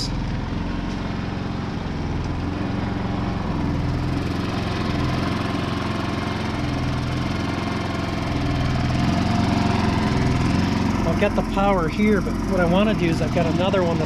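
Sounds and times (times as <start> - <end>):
generator engine idling: 0.0 - 14.0.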